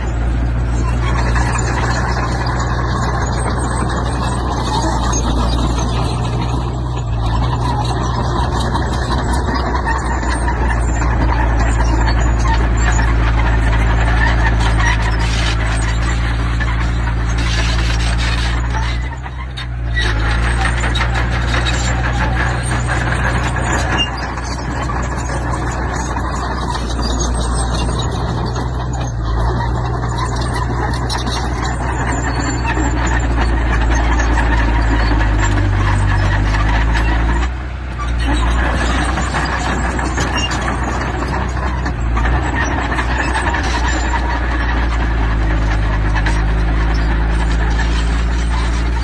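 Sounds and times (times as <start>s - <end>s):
dense clatter: 0.0s - 49.0s
diesel engine running under load: 0.0s - 49.0s
rattling and clanking: 0.0s - 49.0s.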